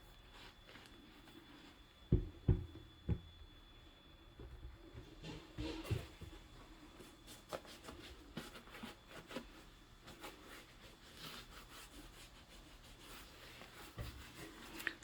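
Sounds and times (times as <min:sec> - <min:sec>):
soft rubbing and rustling: 0:00.0 - 0:02.2, 0:04.7 - 0:15.0.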